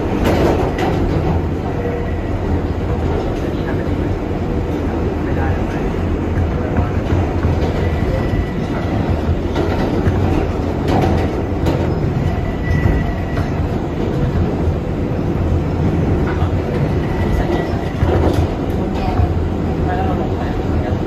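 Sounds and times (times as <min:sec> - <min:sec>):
rail joint clicks: 0:00.0 - 0:21.0
subway train wheels rumbling: 0:00.0 - 0:21.0.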